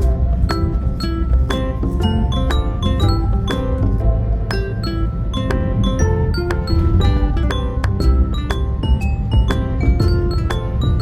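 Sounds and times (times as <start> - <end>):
music with bright struck notes: 0.0 - 11.0
steady bass beat: 0.0 - 11.0.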